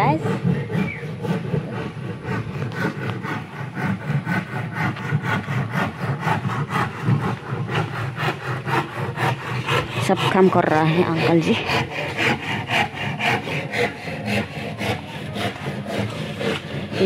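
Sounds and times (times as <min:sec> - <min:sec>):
hand saw cutting wood: 0:00.0 - 0:17.0.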